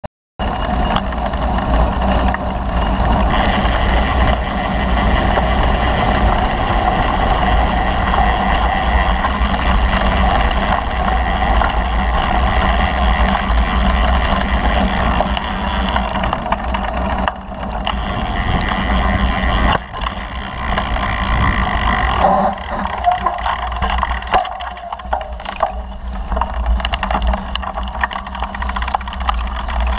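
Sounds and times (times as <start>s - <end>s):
wind rumble on microphone: 0.4s - 29.9s
tyres on gravel: 3.0s - 29.9s.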